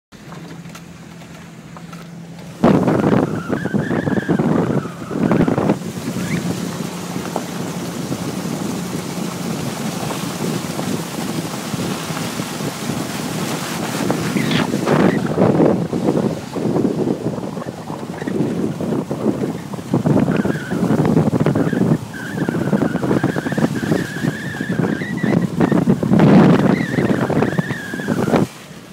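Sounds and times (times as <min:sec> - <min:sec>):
tyre and drivetrain noise: 0:00.1 - 0:28.9
off-road vehicle engine revving: 0:00.2 - 0:28.5.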